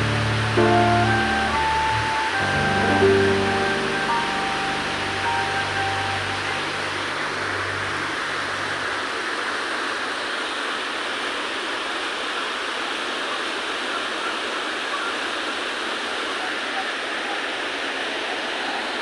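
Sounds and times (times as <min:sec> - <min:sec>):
water rushing in a creek: 0:00.0 - 0:19.0.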